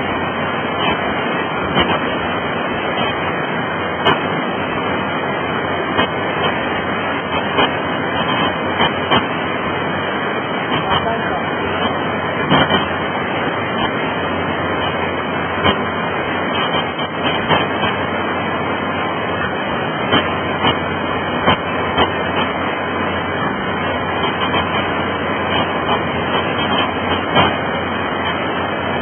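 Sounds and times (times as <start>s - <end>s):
floodwater rushing through rapids: 0.0s - 29.0s
short crackles: 0.5s - 29.0s.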